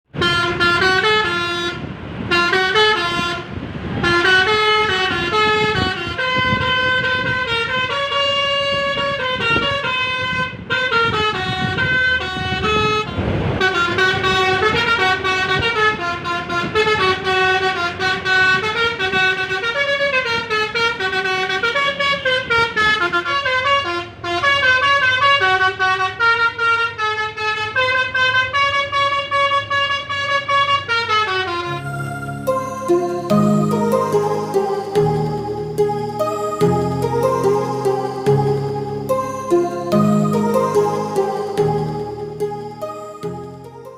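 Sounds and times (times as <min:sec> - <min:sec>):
multi-tone bus horn playing a tune: 0:00.1 - 0:43.9.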